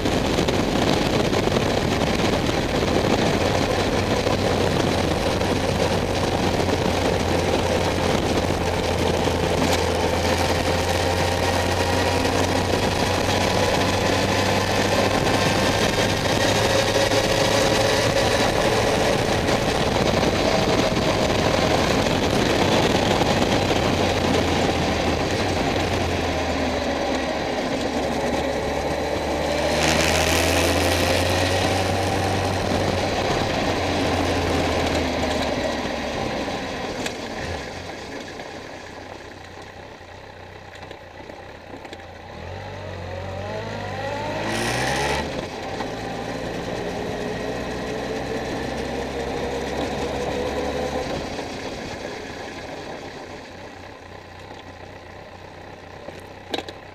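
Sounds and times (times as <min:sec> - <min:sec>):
motorcycle engine and exhaust: 0:00.0 - 0:56.9.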